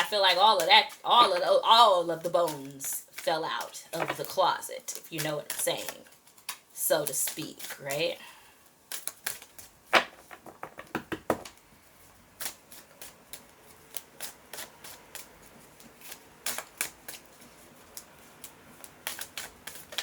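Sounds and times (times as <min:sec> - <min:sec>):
cards being shuffled: 0:00.0 - 0:08.1, 0:08.9 - 0:20.0.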